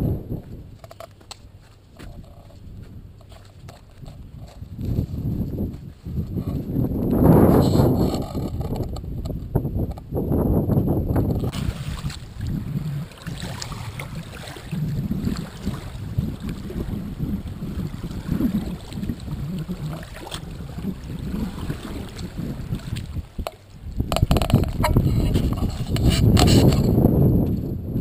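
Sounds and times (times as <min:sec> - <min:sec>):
wind rumbling on microphone: 0:00.0 - 0:28.0
water lapping at a bank: 0:00.1 - 0:27.6.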